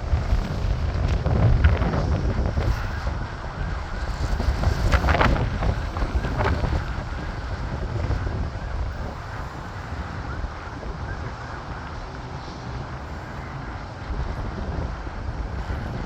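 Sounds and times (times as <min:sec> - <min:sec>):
low aircraft rumble: 0:00.0 - 0:16.0
wind buffeting microphone: 0:00.0 - 0:16.0.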